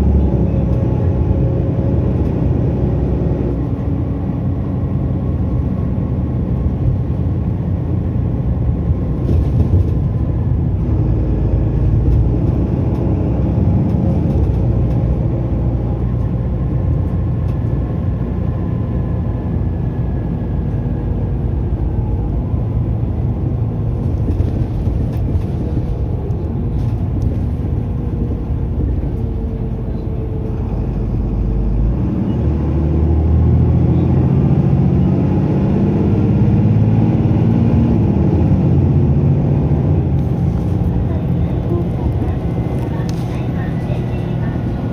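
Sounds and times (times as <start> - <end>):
bus diesel engine drone: 0.0 - 44.9
road noise: 0.0 - 44.9.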